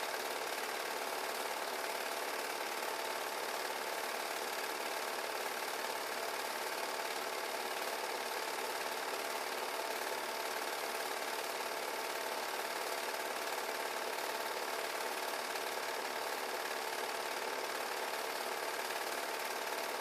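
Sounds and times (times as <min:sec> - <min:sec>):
film projector running: 0:00.0 - 0:20.0.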